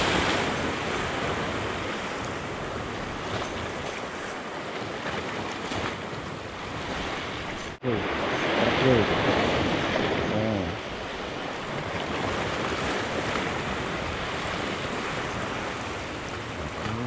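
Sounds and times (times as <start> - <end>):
sea waves splashing: 0.0 - 17.0.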